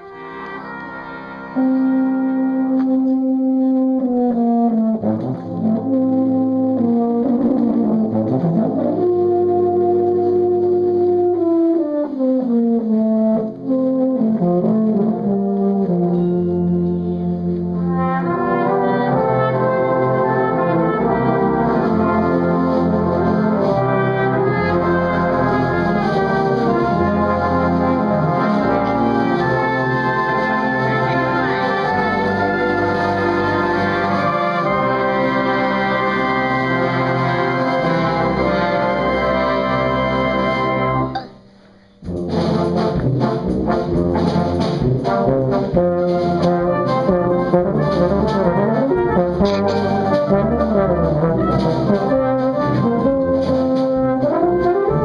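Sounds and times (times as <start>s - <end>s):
brass band playing: 0.0s - 41.2s, 41.8s - 55.0s
euphonium melody: 0.0s - 41.6s, 45.1s - 55.0s.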